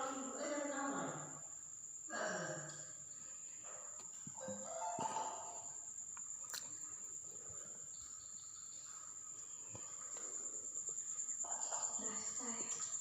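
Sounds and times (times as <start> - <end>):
insect high-pitched trill: 0.0 - 13.0.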